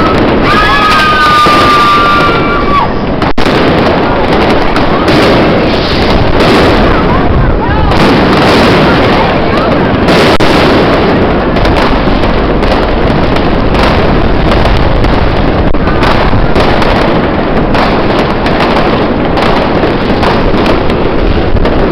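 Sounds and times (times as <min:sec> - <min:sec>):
fireworks crackling and banging: 0:00.0 - 0:21.9.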